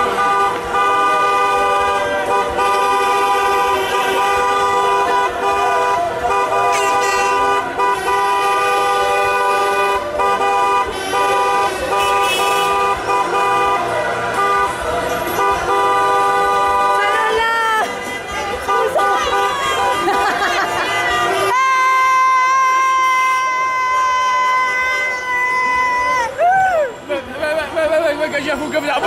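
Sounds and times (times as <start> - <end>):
car horns honking: 0.0 - 26.4.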